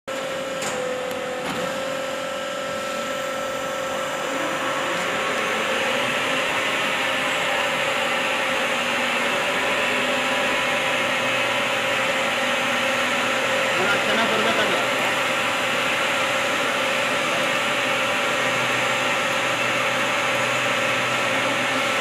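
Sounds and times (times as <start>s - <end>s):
lathe mechanical hum and whine: 0.1s - 22.0s.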